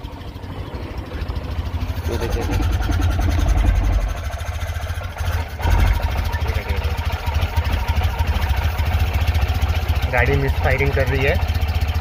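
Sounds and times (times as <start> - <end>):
car engine misfiring: 0.0 - 12.0.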